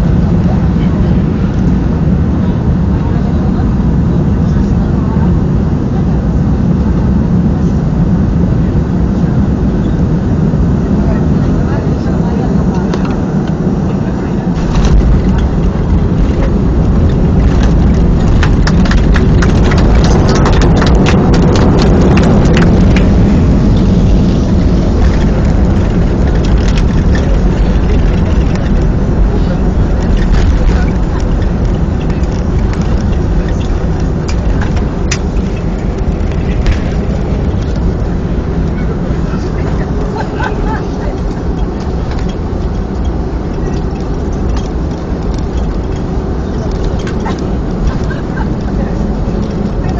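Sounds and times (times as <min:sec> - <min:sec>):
aircraft cabin engine rumble: 0:00.0 - 0:49.9.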